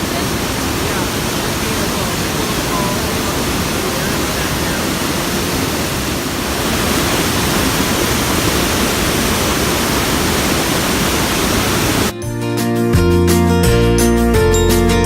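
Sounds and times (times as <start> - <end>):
water rushing over dam: 0.0 - 12.2.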